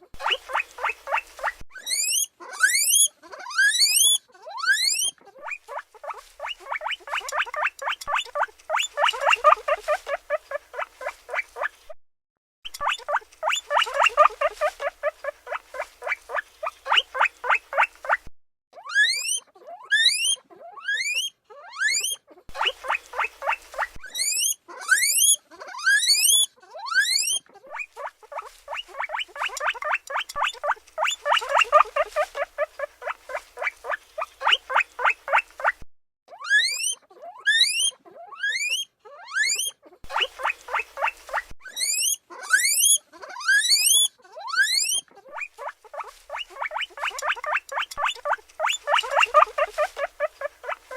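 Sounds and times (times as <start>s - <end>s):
guinea pig fast squeaks: 0.0s - 12.0s, 12.7s - 50.9s
guinea pig rising whistles: 0.2s - 11.7s, 12.7s - 18.2s, 18.8s - 50.8s.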